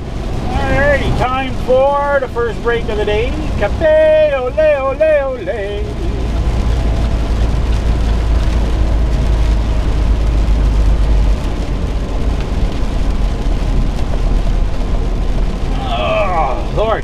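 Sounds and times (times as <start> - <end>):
truck engine drone: 0.0 - 17.0
tyre noise on wet road: 0.0 - 17.0.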